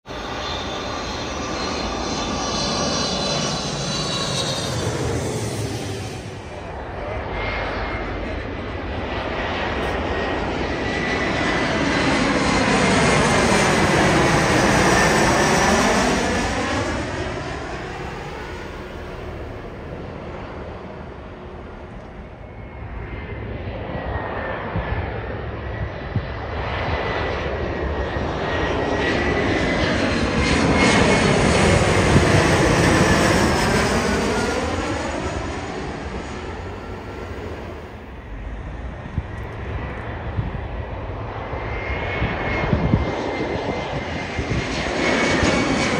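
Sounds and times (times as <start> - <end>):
jet passing overhead: 0.0 - 45.9.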